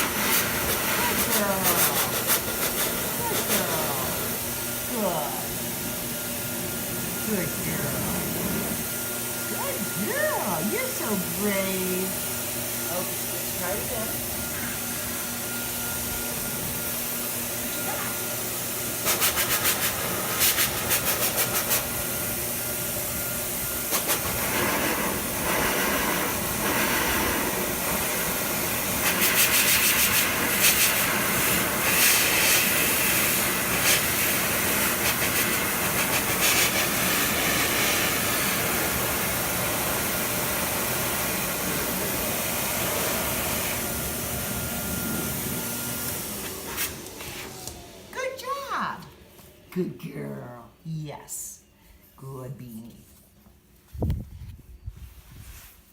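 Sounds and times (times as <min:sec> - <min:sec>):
blow dryer running: 0:00.0 - 0:49.7.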